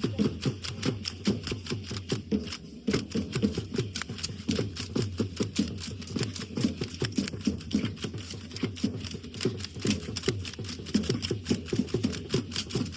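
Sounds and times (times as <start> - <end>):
dance drum beating: 0.0 - 12.9
rattling clatter of clicks: 0.0 - 12.9.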